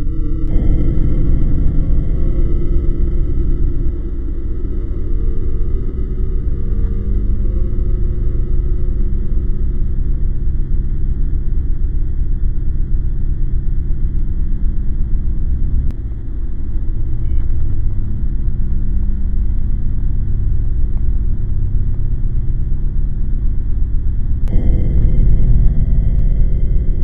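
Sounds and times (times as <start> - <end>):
low rumbling drone: 0.0 - 27.0.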